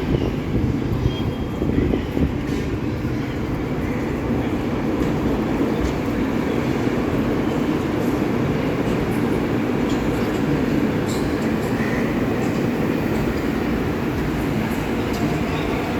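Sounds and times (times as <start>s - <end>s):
train wheels rumbling on track: 0.0s - 15.9s.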